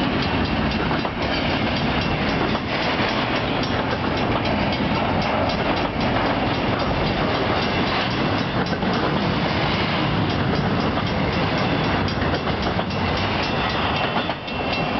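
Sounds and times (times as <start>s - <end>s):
freight train rumbling past: 0.0s - 14.9s.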